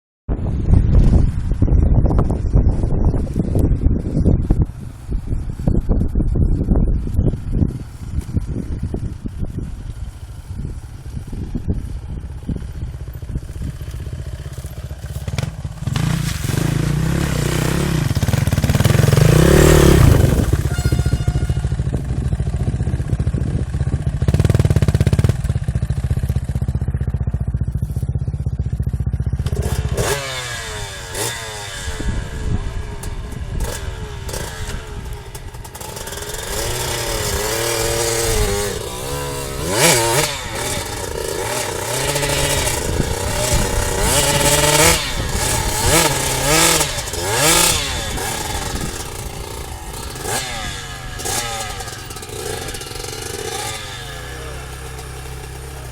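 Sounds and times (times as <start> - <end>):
dirt bike engines revving: 4.6 - 55.9.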